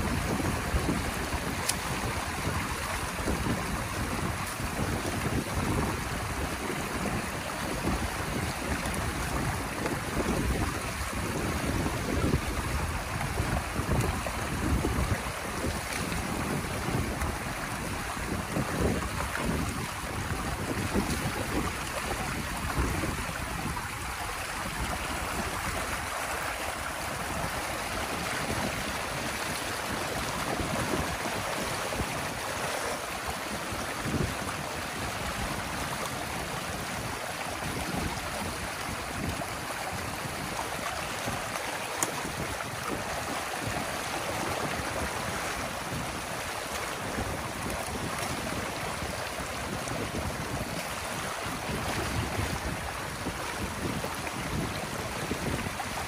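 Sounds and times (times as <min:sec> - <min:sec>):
water rushing through dam breach: 0:00.0 - 0:56.0
water splashes: 0:00.0 - 0:56.0.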